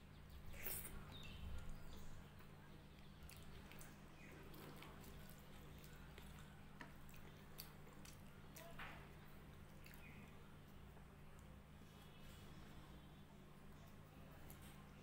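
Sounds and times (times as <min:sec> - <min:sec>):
fingers squishing rice: 0:00.4 - 0:15.0.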